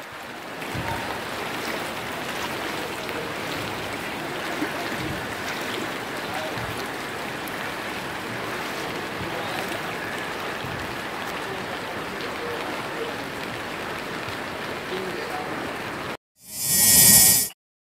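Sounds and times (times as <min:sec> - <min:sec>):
floodwater rushing: 0:00.0 - 0:16.2.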